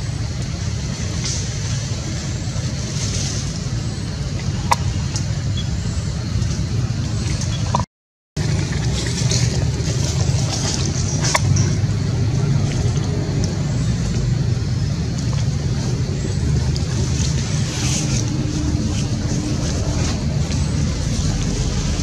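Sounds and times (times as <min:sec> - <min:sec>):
steady low rumble: 0:00.0 - 0:07.8, 0:08.4 - 0:22.0.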